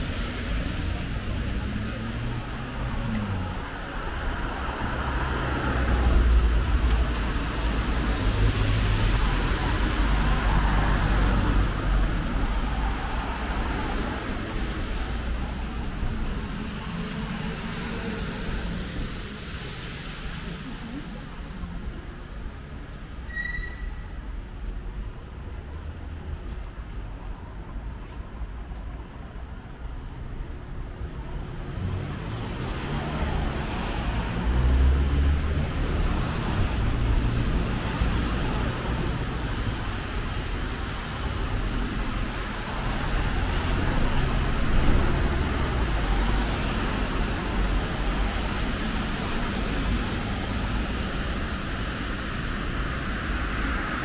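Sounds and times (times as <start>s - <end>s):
cars passing on wet road: 0.0s - 54.0s.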